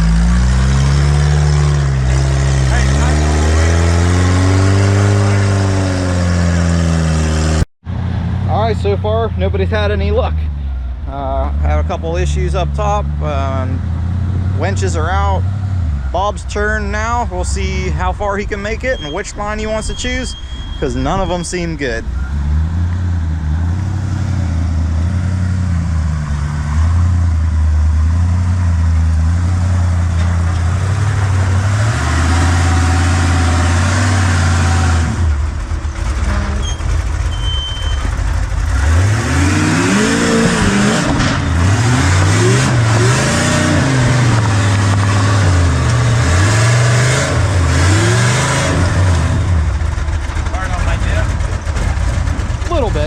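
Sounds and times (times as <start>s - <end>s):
buggy engine revving: 0.0s - 53.0s.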